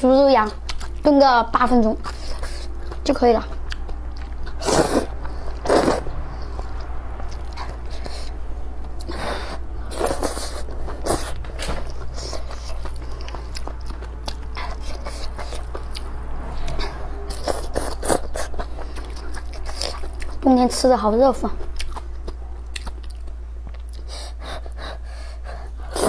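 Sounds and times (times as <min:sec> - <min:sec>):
low steady hum: 0:00.0 - 0:26.0
person chewing noodles: 0:00.4 - 0:01.1, 0:01.9 - 0:20.4, 0:21.6 - 0:26.0.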